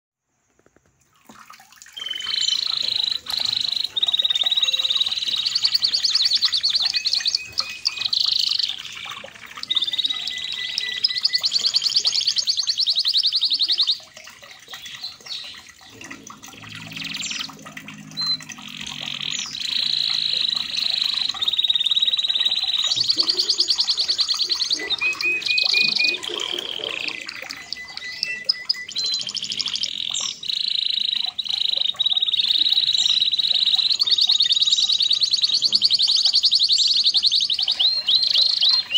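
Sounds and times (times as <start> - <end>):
canary singing trills: 2.0 - 38.9.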